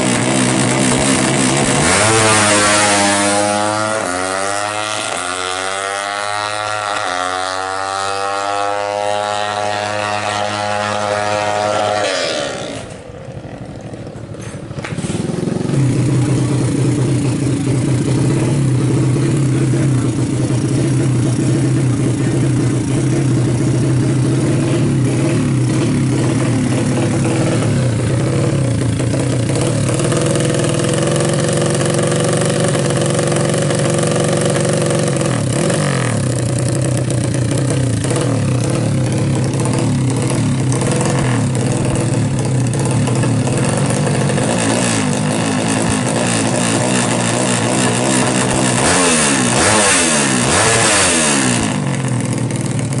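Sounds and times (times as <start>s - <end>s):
motorcycle engine idling fast: 0.0s - 11.7s, 12.8s - 53.0s.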